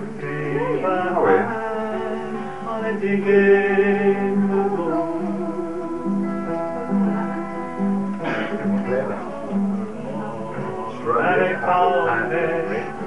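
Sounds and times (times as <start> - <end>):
acoustic guitar folk tune: 0.0 - 13.0
melody of long held notes: 0.0 - 13.0.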